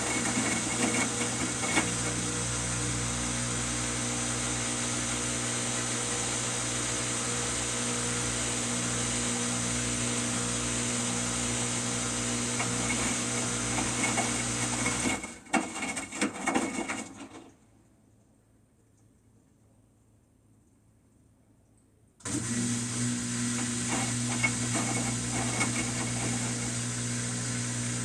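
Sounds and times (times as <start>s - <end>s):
washing machine motor hum: 0.0s - 17.6s, 22.2s - 28.0s.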